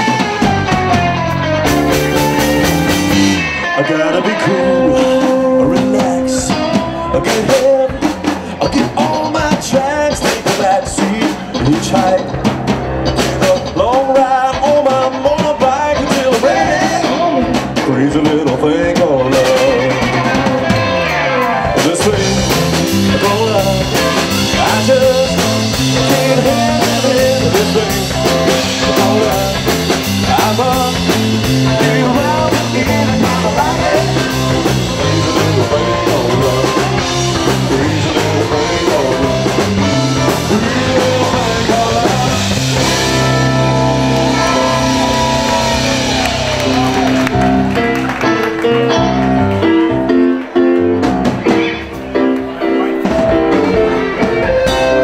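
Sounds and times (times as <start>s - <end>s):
drum kit: 0.0s - 55.0s
electric guitar: 0.0s - 55.0s
man singing: 3.2s - 47.5s.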